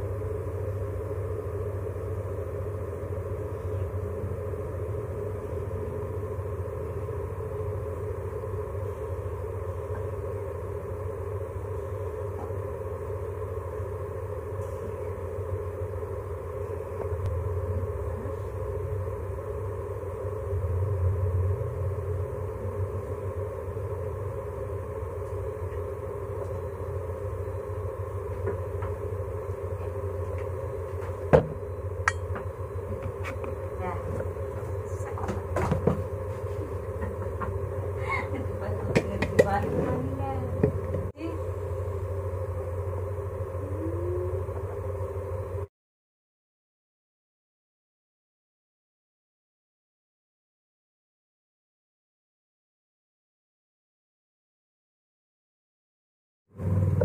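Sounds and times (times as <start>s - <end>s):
low background rumble: 0.0s - 45.7s.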